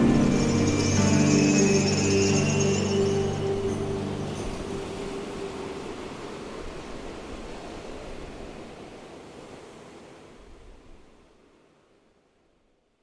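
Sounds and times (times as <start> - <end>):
rushing river water: 0.0 - 12.8.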